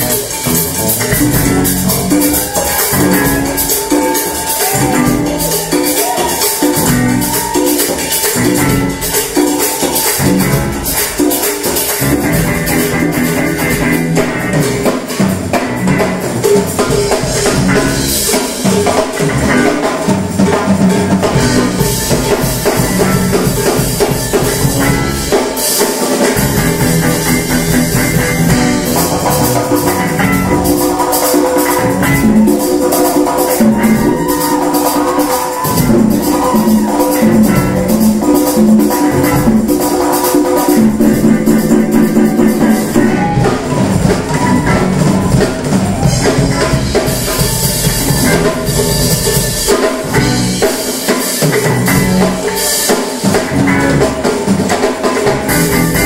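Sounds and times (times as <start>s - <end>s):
bass guitar: 0.0s - 56.0s
congas: 0.0s - 56.0s
drum kit: 0.0s - 56.0s
electric guitar: 0.0s - 56.0s.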